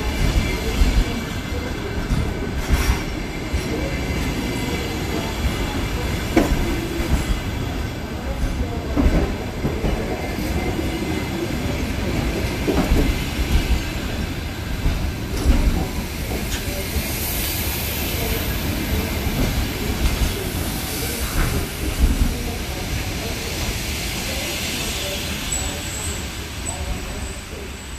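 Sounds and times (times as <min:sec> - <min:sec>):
train rumbling: 0:00.0 - 0:27.9.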